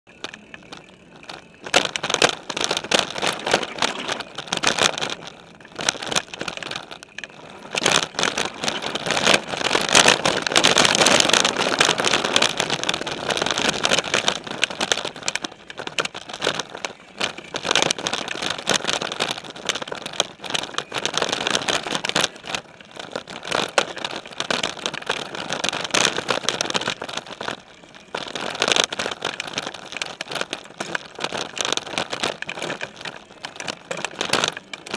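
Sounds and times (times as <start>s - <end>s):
bike clattering and rattling: 0.1s - 34.9s
bike tyres crunching on leaves: 0.1s - 34.9s.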